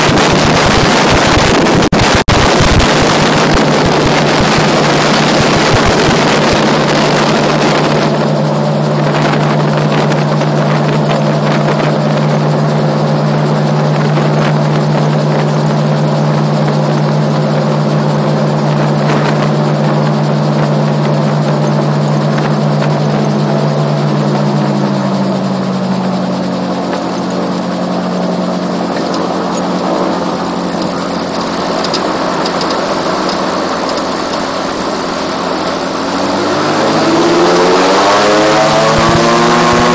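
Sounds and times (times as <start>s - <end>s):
aircraft engine and propeller: 0.0s - 39.9s
rotor noise: 0.0s - 39.9s
wind: 0.0s - 39.9s.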